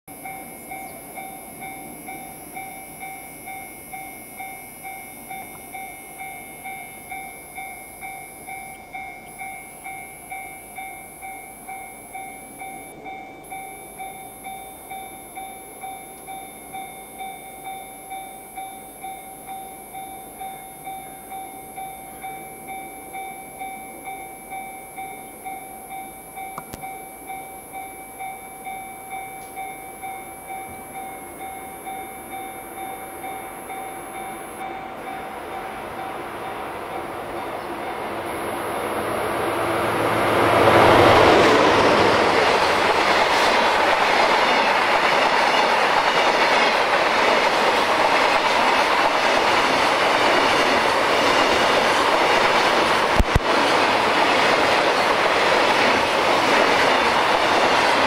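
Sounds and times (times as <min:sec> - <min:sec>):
faint train rumble: 0:00.1 - 0:58.0
railway crossing alarm ringing: 0:00.1 - 0:58.0.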